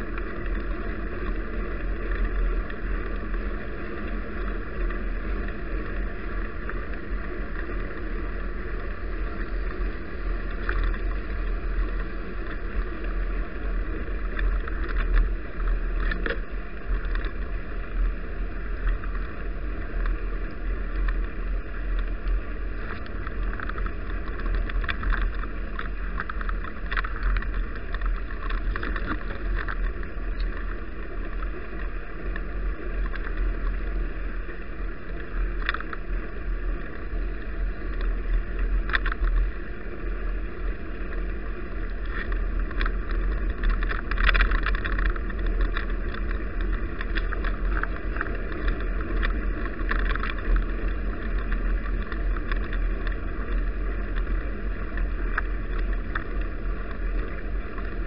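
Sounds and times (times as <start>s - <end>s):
bicycle clicks and rattles: 0.0s - 58.0s
road rumble: 0.0s - 58.0s.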